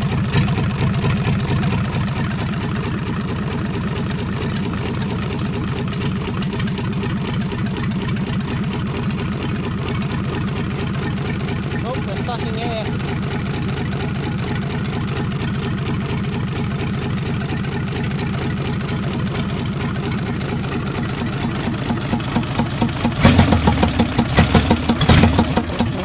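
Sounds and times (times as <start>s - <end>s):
diesel engine clattering: 0.0s - 26.0s.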